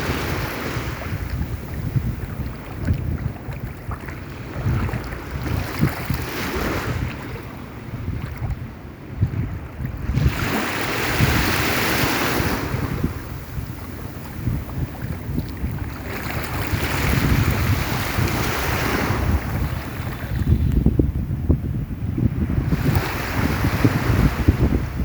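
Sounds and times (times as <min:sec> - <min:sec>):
sea waves washing in: 0:00.0 - 0:08.7, 0:09.5 - 0:25.0
wind rumbling on microphone: 0:00.0 - 0:25.0.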